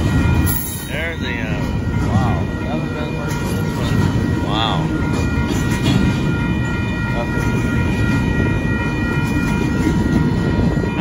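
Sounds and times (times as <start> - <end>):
steel train wheels rumbling on rails: 0.0 - 11.0.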